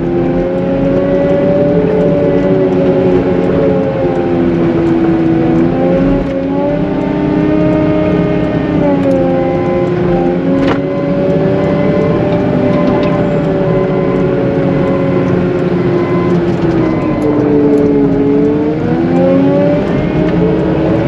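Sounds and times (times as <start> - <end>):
wheel loader diesel engine: 0.0 - 21.0.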